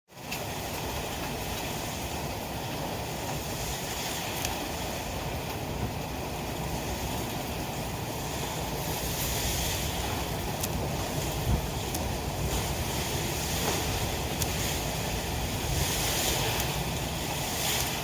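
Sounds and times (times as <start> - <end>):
storm wind and rain: 0.1 - 18.0
wind buffeting microphone: 0.2 - 18.0.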